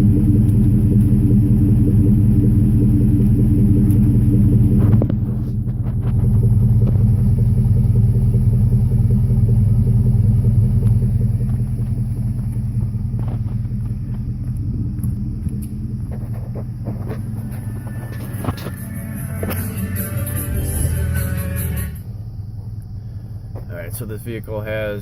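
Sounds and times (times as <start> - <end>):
engine idling with deep rumble: 0.0 - 25.0.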